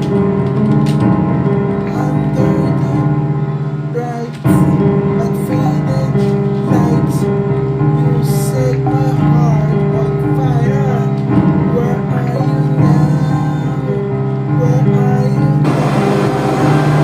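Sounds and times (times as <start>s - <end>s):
keyboard chords with melody: 0.0s - 17.0s.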